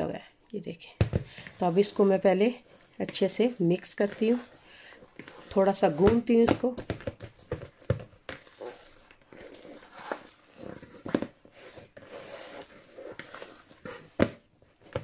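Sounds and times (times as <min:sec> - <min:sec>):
dough squishing: 0:01.0 - 0:15.0.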